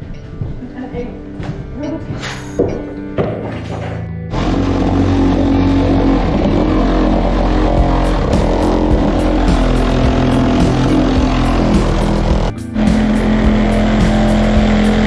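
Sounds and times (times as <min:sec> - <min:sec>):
dense music with steady beat: 0:00.0 - 0:15.0.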